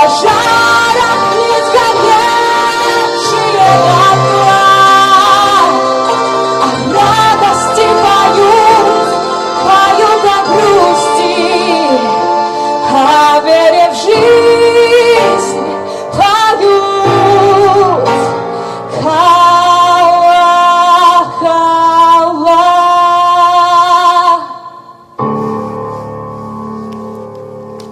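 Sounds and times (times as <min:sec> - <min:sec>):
instrumental backing track: 0:00.0 - 0:23.3, 0:24.9 - 0:27.9
woman singing with vibrato: 0:00.0 - 0:25.3.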